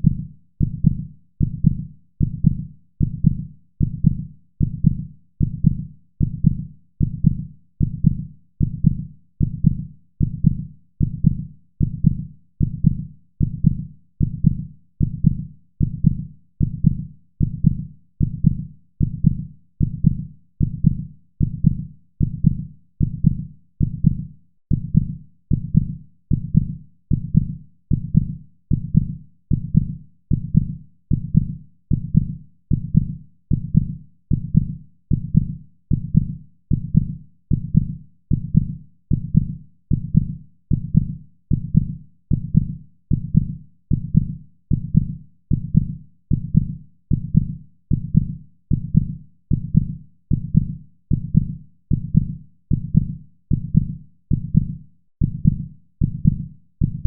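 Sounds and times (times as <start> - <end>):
heartbeat thuds: 0.0 - 57.0.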